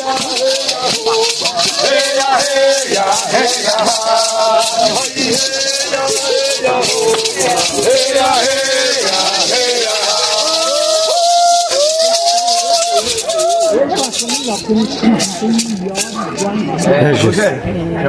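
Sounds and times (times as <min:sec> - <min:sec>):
voices singing a chant: 0:00.0 - 0:17.4
maracas shaken in rhythm: 0:00.0 - 0:17.5.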